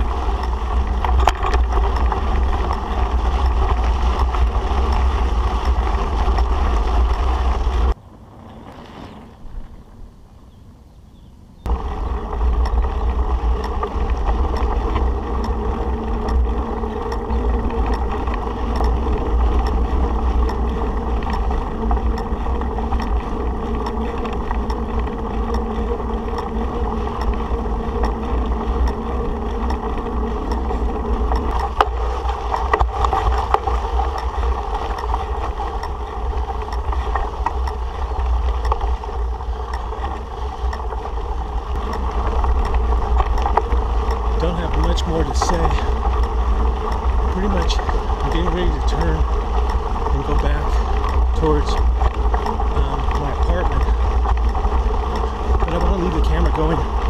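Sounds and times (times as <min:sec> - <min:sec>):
bicycle tyres rolling on gravel: 0:00.0 - 0:57.0
wind rumble on microphone: 0:00.0 - 0:57.0.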